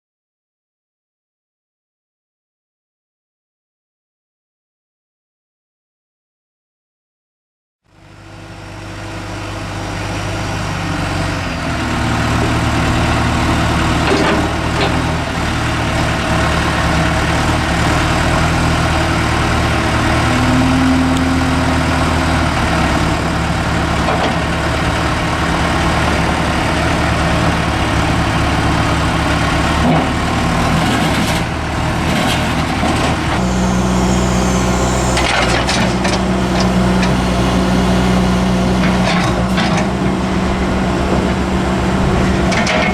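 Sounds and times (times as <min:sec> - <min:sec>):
diesel engine running: 0:07.9 - 0:42.9.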